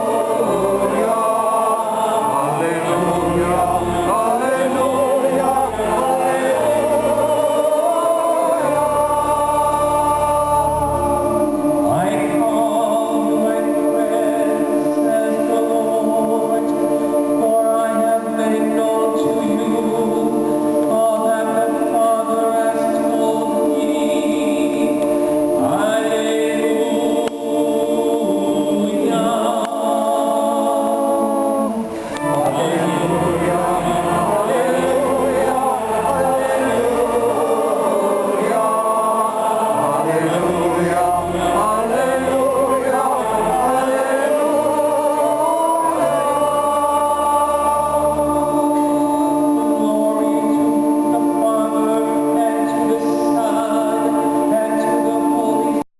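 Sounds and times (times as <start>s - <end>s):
church choir singing: 0.0s - 55.9s.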